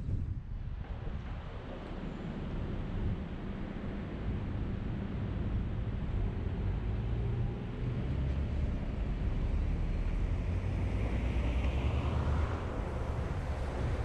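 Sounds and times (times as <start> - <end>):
car engine and tyres rumbling: 0.1 - 14.0.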